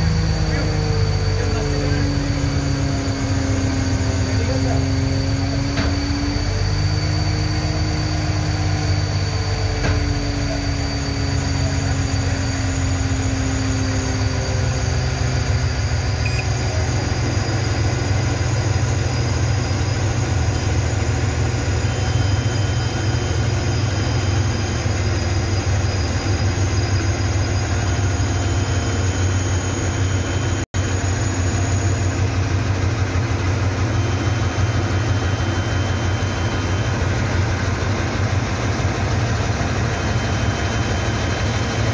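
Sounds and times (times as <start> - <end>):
heavy vehicle engine humming: 0.0 - 41.9.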